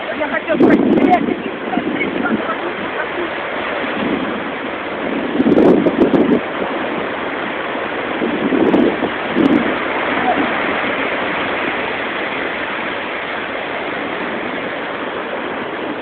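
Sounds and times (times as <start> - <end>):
ocean surf roaring: 0.0 - 16.0
wind on microphone: 0.0 - 16.0.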